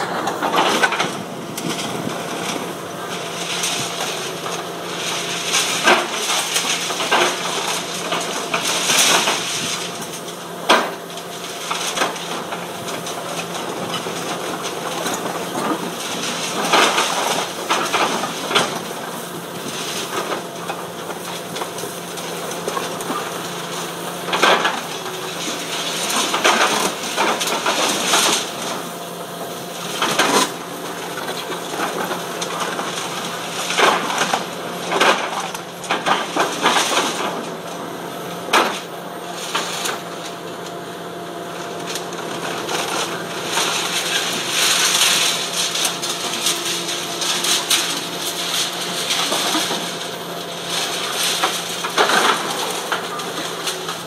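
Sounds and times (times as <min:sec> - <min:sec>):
concrete cracking and crunching: 0:00.0 - 0:54.0
diesel engine running: 0:00.0 - 0:54.0.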